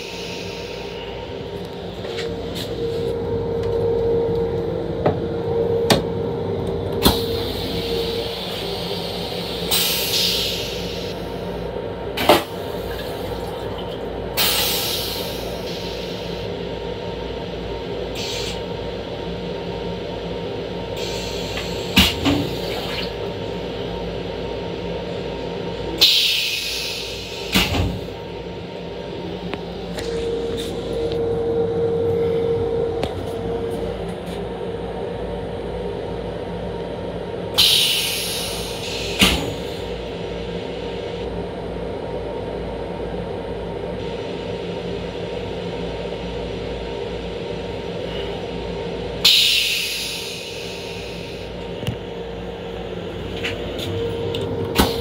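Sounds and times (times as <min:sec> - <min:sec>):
train steady hum: 0:00.0 - 0:55.0.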